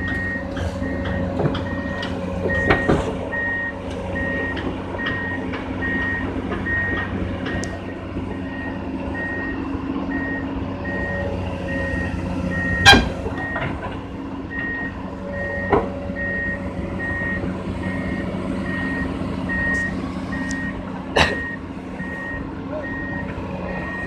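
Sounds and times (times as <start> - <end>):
excavator travel alarm beeping: 0.0 - 13.8, 14.5 - 24.0
diesel engine running: 0.0 - 24.0.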